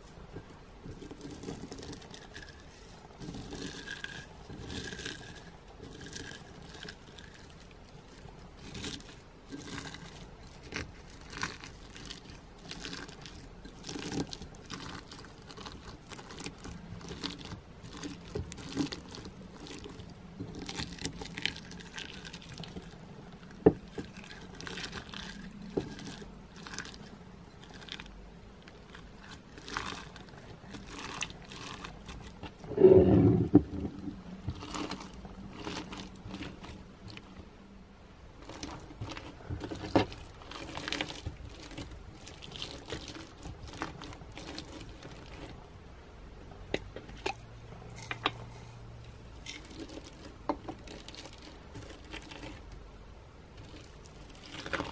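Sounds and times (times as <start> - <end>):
plastic sequins rustling: 0.0 - 32.7, 33.6 - 37.4, 38.2 - 45.7, 47.0 - 54.9.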